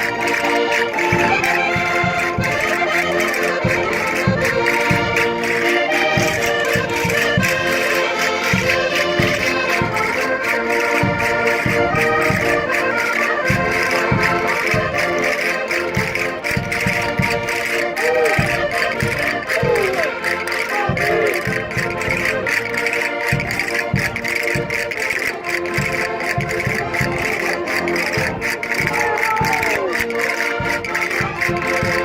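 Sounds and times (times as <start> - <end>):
concertinas playing folk dance tune: 0.0 - 32.0.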